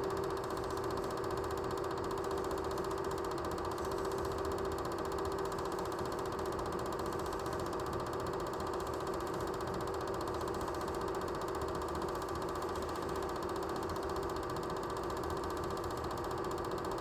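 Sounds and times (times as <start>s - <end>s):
film projector motor whir: 0.0s - 17.0s.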